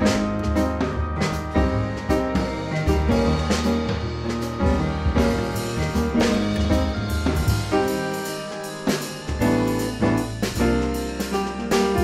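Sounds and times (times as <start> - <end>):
instrumental music with drum beat: 0.0 - 12.0.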